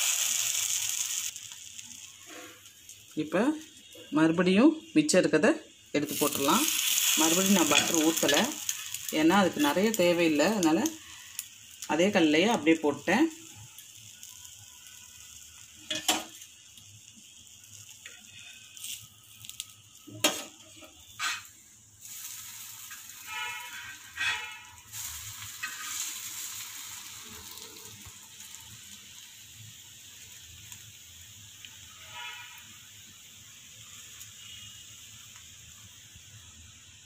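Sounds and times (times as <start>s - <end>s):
bread sizzling on a pan: 0.0s - 37.0s.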